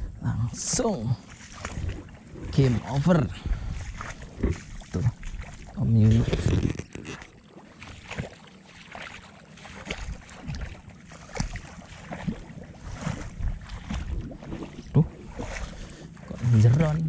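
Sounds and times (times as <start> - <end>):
footsteps sloshing through shallow water: 0.0 - 17.0.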